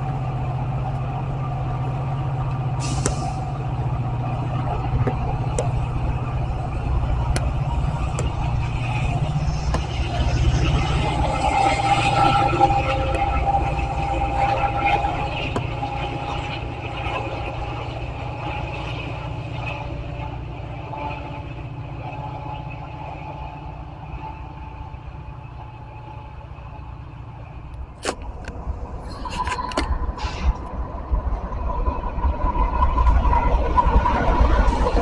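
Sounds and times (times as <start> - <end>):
diesel locomotive engine hum: 0.0 - 35.0
low rumble with high tone: 0.0 - 35.0.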